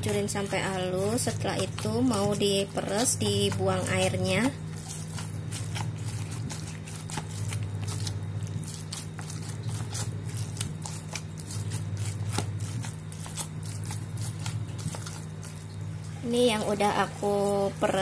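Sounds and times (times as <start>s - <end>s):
steady low hum: 0.0s - 18.0s
wet squishing of tofu: 0.0s - 18.0s.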